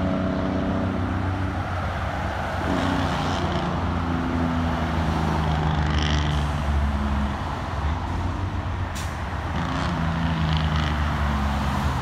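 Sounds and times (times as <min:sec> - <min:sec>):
loud diesel truck engine: 0:00.0 - 0:12.0.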